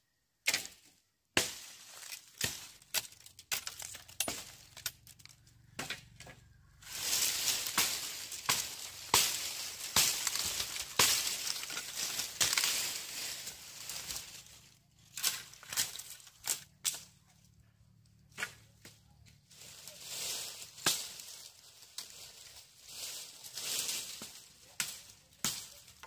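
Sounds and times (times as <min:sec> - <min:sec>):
crackling rustle with snaps: 0:01.8 - 0:26.0.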